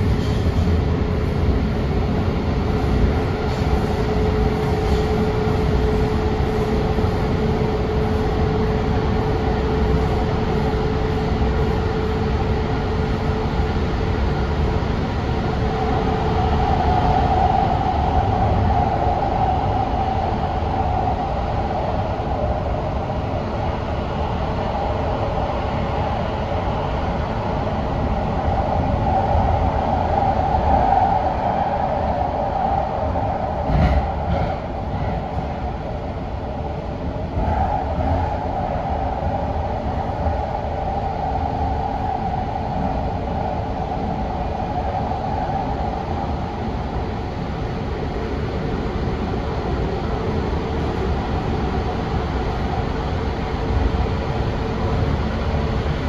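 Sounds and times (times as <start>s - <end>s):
train wheels and motors rumbling: 0.0s - 56.0s.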